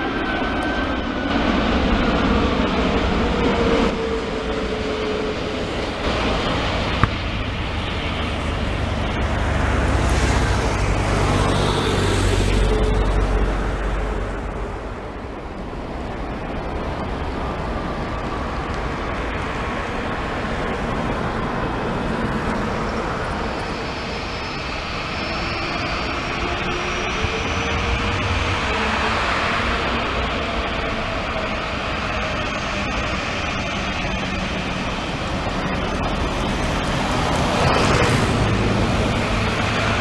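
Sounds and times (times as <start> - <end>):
jet engine low rumble: 0.0 - 40.0
jet engines whining: 0.0 - 40.0.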